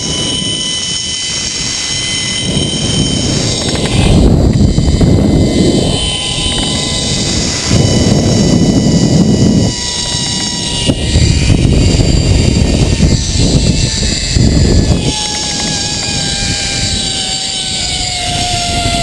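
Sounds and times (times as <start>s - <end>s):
wind rush on microphone: 0.0s - 19.0s
zipline pulleys whining: 0.0s - 19.0s.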